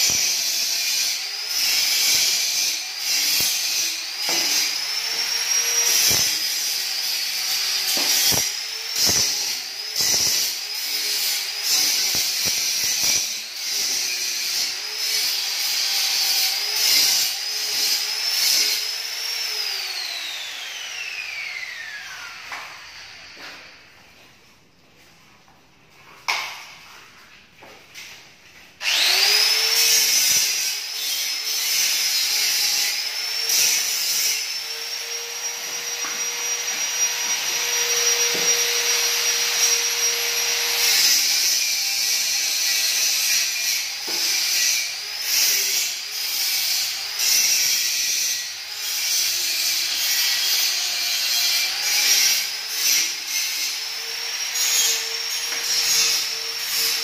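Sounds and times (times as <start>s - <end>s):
small electric motor whining: 0.0s - 23.8s, 28.8s - 57.0s.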